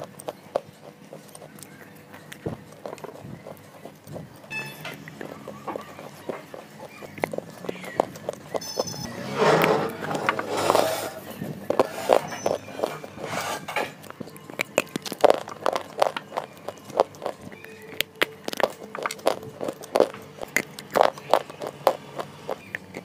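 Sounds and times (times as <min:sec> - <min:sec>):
soft chewing: 0:00.0 - 0:09.0, 0:09.6 - 0:23.0.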